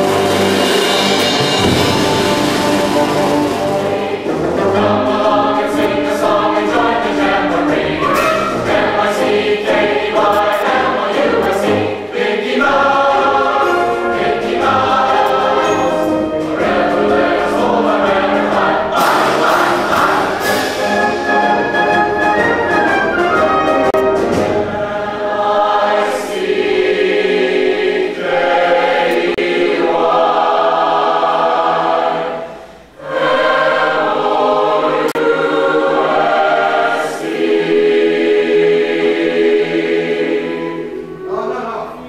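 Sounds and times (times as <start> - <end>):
choir singing sustained chords: 0.0 - 22.0, 24.4 - 42.0.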